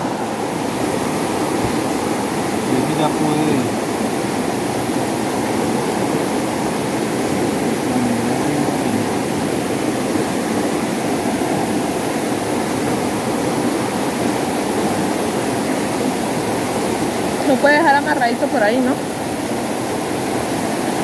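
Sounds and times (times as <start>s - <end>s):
fast-flowing river rushing: 0.0s - 21.0s.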